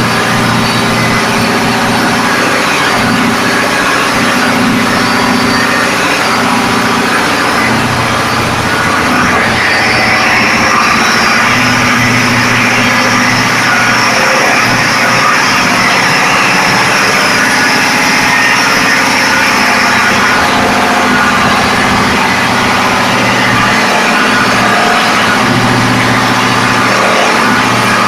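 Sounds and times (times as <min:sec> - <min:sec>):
engine hum: 0:00.0 - 0:28.0
engine room machinery din: 0:00.0 - 0:28.0.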